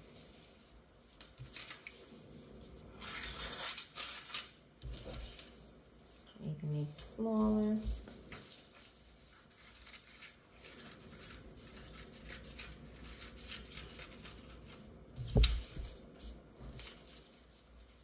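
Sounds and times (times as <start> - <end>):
paper rustling: 0.3 - 2.2, 3.0 - 6.2, 7.8 - 18.0.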